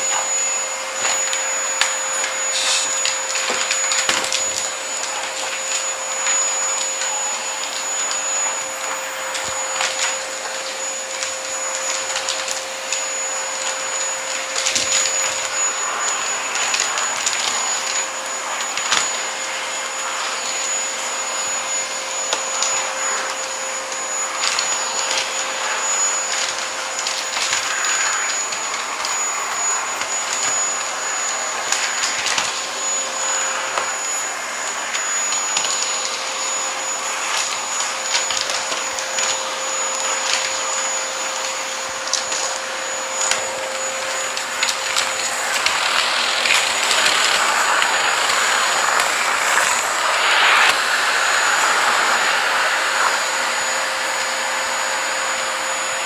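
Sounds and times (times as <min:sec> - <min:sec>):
stick vacuum cleaner running: 0:00.0 - 0:56.0.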